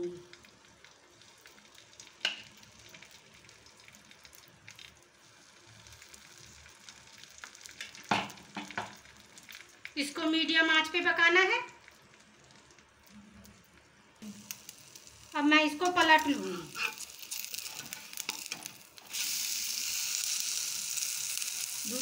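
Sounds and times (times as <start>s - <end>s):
bread frying in oil: 0.0s - 22.0s.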